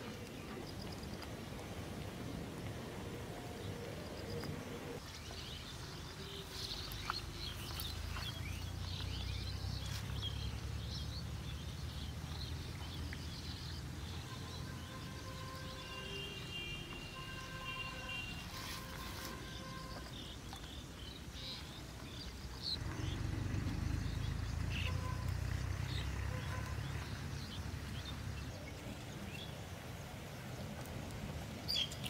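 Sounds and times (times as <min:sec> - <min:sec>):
birds chirping: 0:03.1 - 0:30.9, 0:31.6 - 0:32.0.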